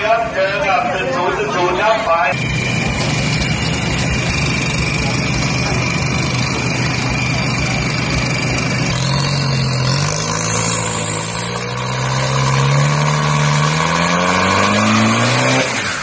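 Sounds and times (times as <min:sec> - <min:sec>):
diesel engine revving: 0:01.4 - 0:16.0.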